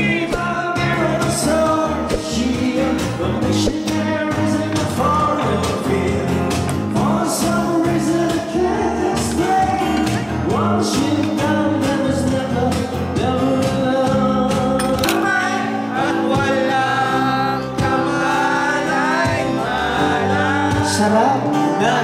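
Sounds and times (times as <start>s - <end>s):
guitars: 0.0s - 22.0s
live rock band playing: 0.0s - 22.0s
person singing: 0.0s - 22.0s.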